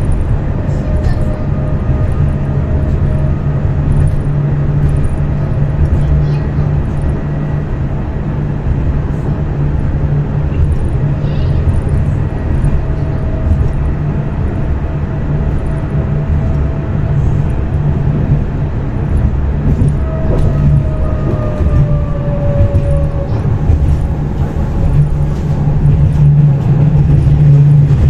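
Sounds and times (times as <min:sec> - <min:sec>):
tram wheels rumbling: 0:00.0 - 0:28.0.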